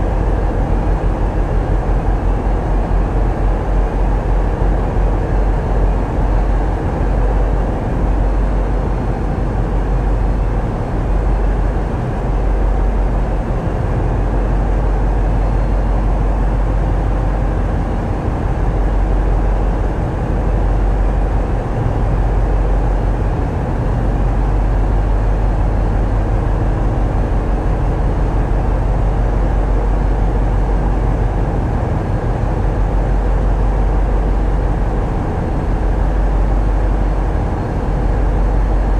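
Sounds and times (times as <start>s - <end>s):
diesel engines rumbling: 0.0s - 38.9s.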